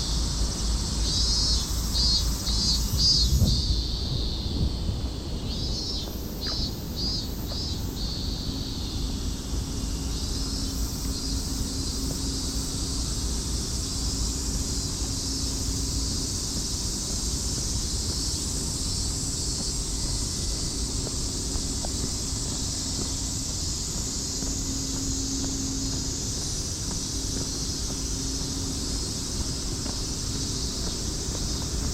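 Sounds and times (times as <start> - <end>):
cicadas singing: 0.0 - 31.9
low hum and rumble: 0.0 - 31.9.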